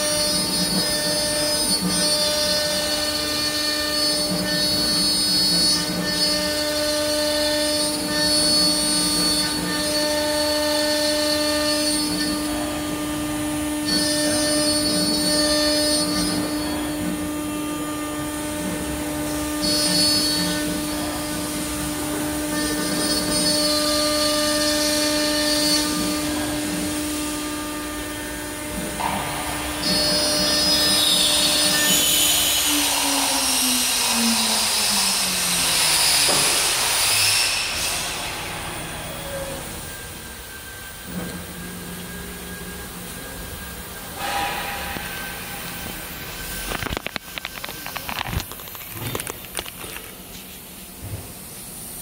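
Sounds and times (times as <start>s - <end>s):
router spindle whine: 0.0s - 51.9s.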